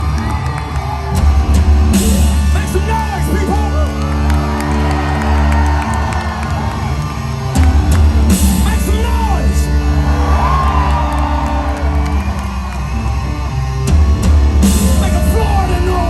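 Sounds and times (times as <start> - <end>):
crowd whooping and yelling: 0.0 - 16.0
loud rock music: 0.0 - 16.0.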